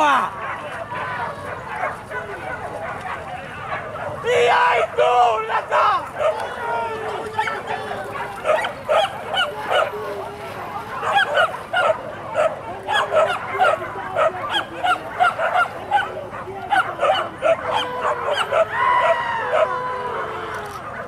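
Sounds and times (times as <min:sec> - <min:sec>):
dog drawn-out cry: 0:00.0 - 0:10.1, 0:10.9 - 0:21.0
dogs yelping: 0:00.0 - 0:21.0.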